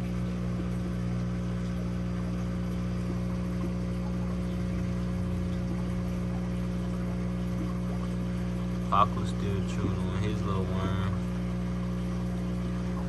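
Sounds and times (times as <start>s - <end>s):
aquarium pump humming: 0.0s - 13.0s
moving water: 0.0s - 13.0s.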